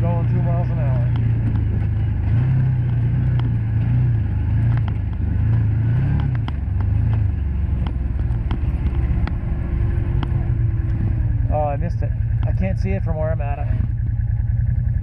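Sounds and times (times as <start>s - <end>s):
engine running while driving: 0.0s - 15.0s.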